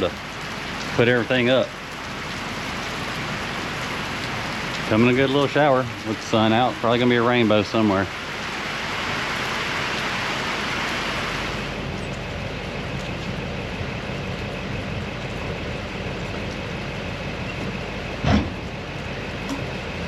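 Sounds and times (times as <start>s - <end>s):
light rain hiss: 0.0s - 20.0s
vehicle engine humming: 0.0s - 20.0s.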